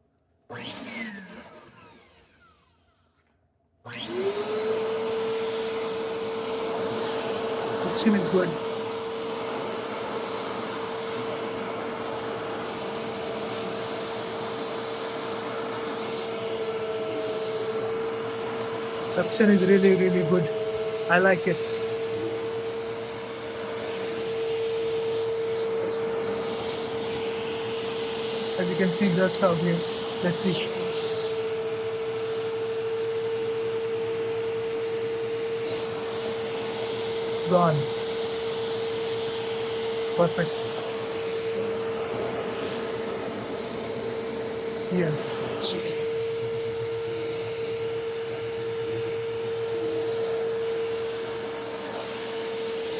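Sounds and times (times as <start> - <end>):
vacuum cleaner running: 0.0 - 3.2, 3.8 - 52.9.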